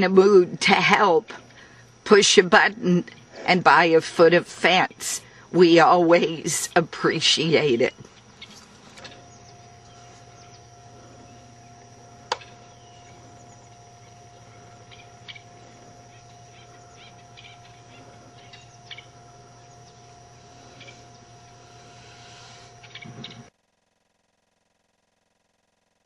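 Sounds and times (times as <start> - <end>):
steady low hum: 0.0 - 25.5.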